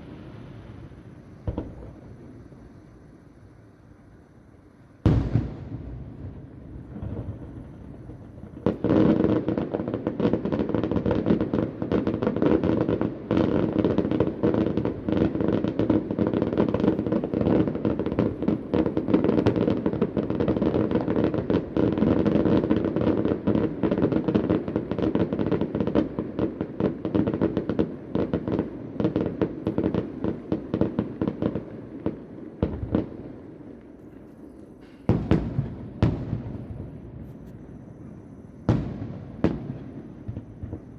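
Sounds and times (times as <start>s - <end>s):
fireworks bangs and crackling pops: 0.0s - 3.8s, 5.0s - 40.9s.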